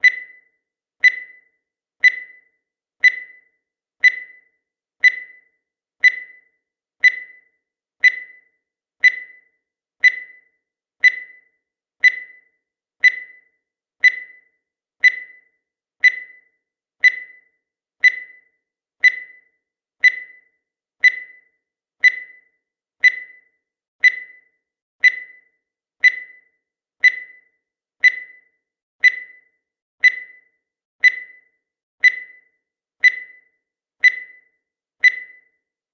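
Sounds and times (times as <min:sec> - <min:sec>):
countdown timer beeps: 0:00.0 - 0:35.7.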